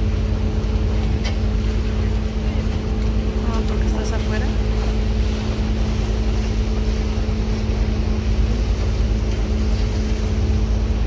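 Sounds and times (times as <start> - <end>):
motorboat engine droning: 0.0 - 11.0
water rushing: 0.0 - 11.0.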